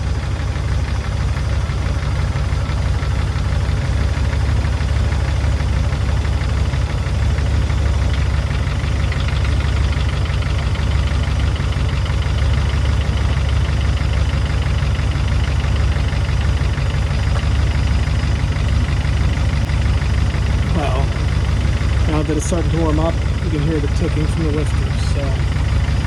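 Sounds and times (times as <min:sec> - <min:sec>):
car engine idling: 0:00.0 - 0:26.0
fast lifter ticking: 0:00.0 - 0:26.0.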